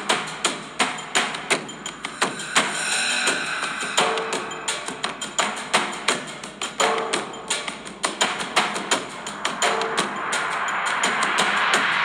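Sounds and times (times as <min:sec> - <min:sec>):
percussive music with drum hits: 0:00.0 - 0:11.9.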